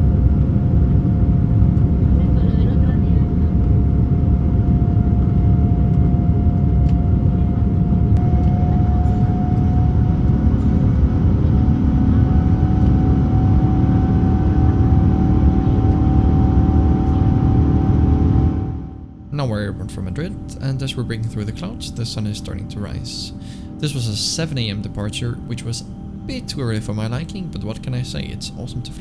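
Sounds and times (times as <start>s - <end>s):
jet engines during takeoff: 0.0s - 29.0s.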